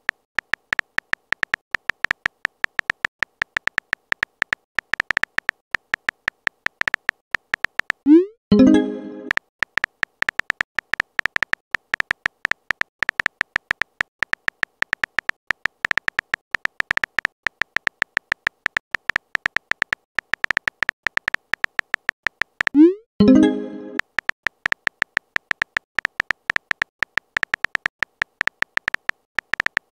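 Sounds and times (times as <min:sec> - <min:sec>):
phone keyboard typing clicks: 0:00.0 - 0:29.9.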